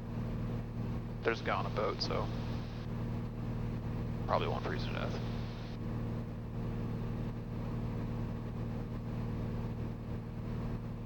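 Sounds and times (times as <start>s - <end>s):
aircraft cabin engine drone: 0.0s - 11.0s.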